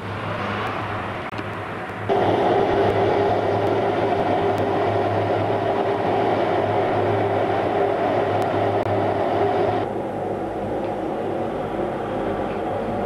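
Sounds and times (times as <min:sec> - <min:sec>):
mechanical drone: 0:00.0 - 0:13.0.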